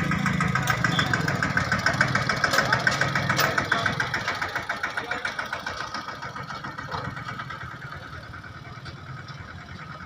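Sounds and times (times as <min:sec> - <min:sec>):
engine running with fast beat: 0:00.0 - 0:10.0.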